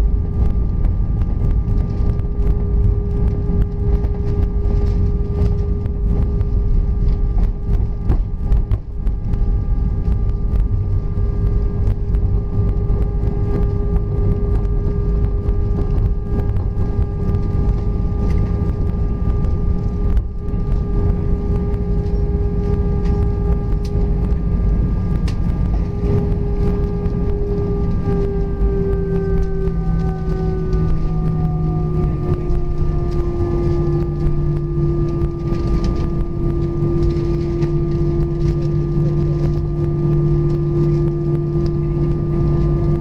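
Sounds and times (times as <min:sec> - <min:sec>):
aircraft engine hum: 0:00.0 - 0:43.0
wheel and airflow rumble: 0:00.0 - 0:43.0.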